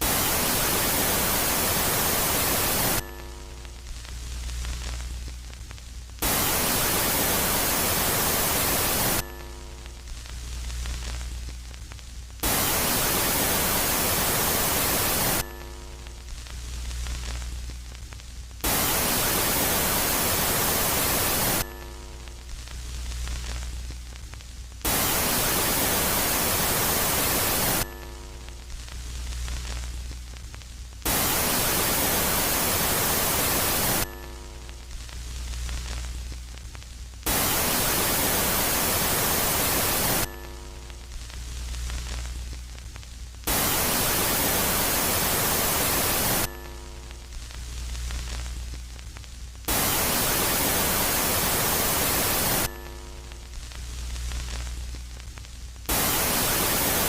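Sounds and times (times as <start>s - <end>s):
synthesized static hiss: 0.0s - 57.0s.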